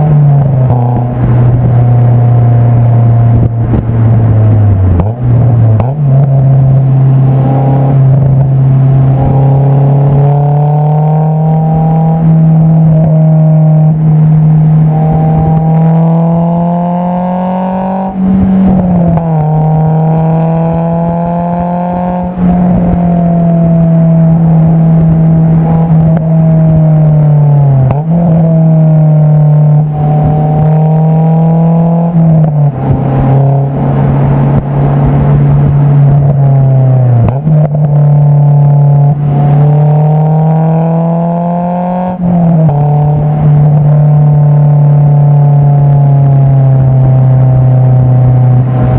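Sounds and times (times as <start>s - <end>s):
car exhaust accelerating: 0.0s - 48.9s.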